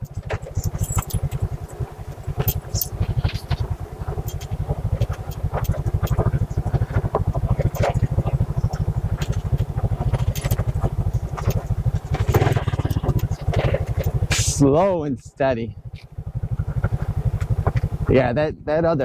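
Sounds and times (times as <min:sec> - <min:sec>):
bike rattling on rough ground: 0:00.0 - 0:14.9, 0:15.7 - 0:18.4
motorbike engine at low revs: 0:00.0 - 0:19.0.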